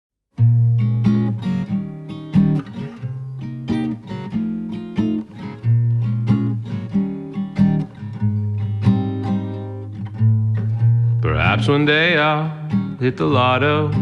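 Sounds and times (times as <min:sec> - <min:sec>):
acoustic guitar strumming and picking: 0:00.4 - 0:14.0.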